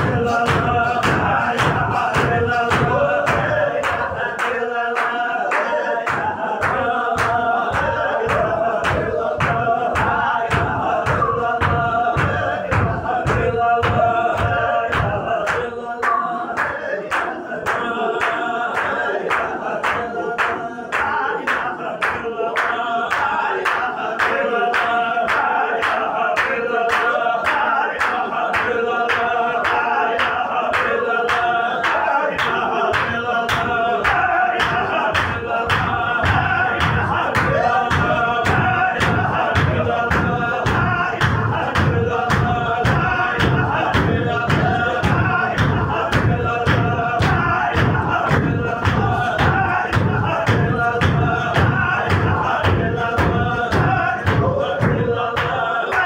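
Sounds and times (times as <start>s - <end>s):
men chanting in unison: 0.0s - 56.0s
sharp steady beat: 0.0s - 56.0s.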